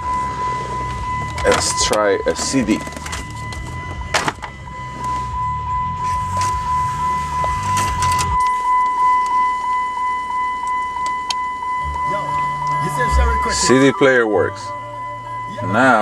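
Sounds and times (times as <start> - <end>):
high-pitched whine: 0.0 - 16.0
low sound from car speakers: 0.0 - 16.0.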